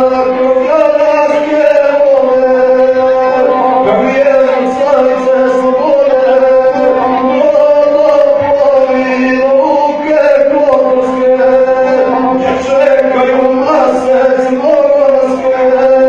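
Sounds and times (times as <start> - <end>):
man chanting verse: 0.0 - 16.0.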